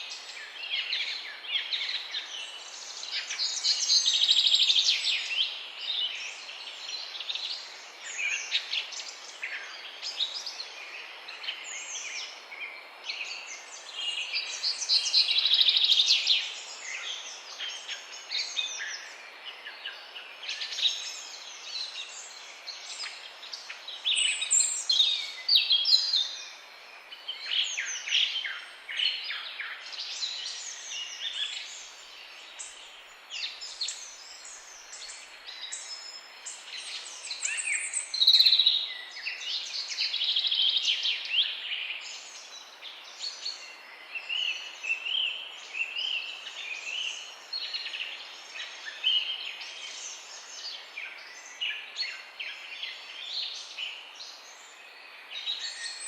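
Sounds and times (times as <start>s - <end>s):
songbirds chorus: 0.0s - 56.0s
steady background hiss: 0.0s - 56.0s.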